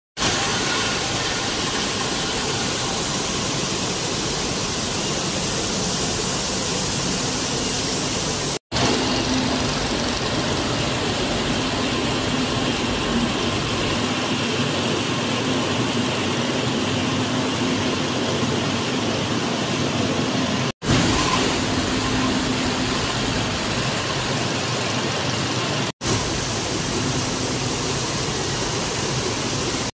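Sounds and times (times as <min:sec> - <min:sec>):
factory machinery din: 0:00.2 - 0:29.9.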